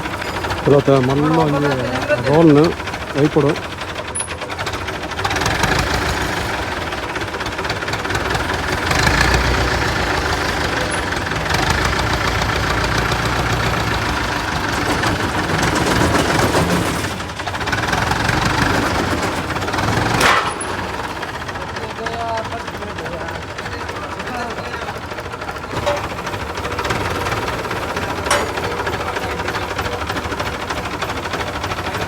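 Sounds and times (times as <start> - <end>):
forklift engine running: 0.0 - 32.0.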